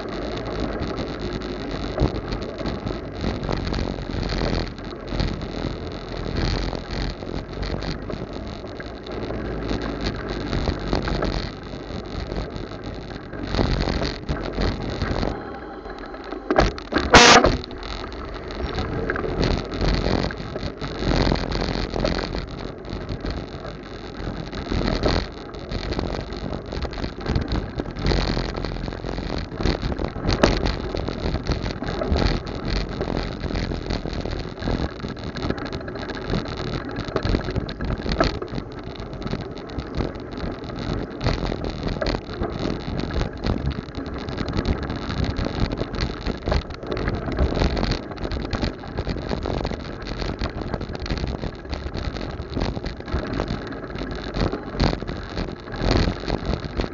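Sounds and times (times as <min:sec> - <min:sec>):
steady low rumble: 0:00.0 - 0:56.9.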